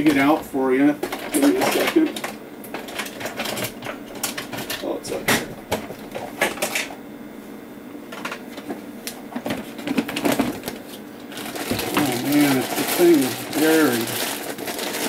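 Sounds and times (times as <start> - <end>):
objects clattering and knocking: 1.0 - 6.9, 8.1 - 10.8, 11.4 - 15.0.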